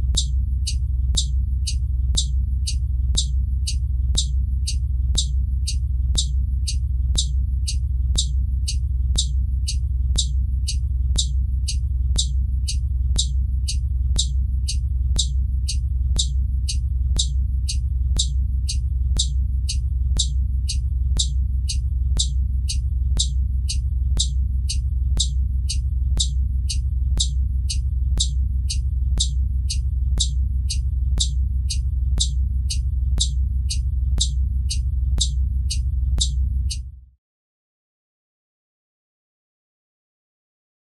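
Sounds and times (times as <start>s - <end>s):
turn-signal flasher ticking: 0.0s - 36.8s
low rumble: 0.0s - 36.9s.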